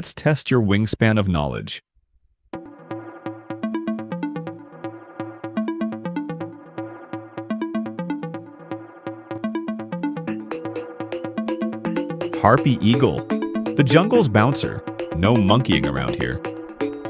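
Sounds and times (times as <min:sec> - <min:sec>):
electronic music with steady beat: 0:02.6 - 0:17.0.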